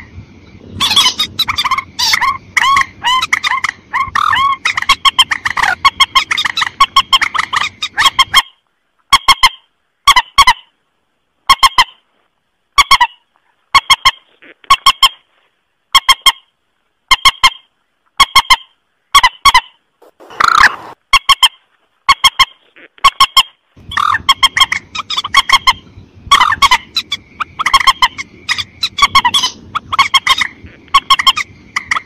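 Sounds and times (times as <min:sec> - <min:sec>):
recorded waterbird calls: 0:00.0 - 0:10.8, 0:11.4 - 0:12.0, 0:17.1 - 0:32.0
background noise: 0:00.0 - 0:32.0.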